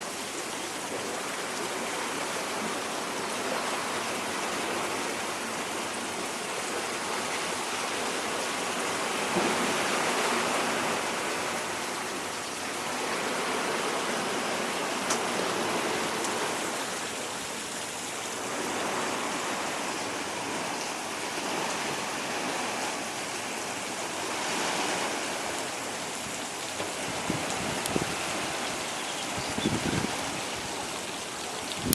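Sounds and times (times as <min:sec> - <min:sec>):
ocean waves washing in: 0:00.0 - 0:31.9.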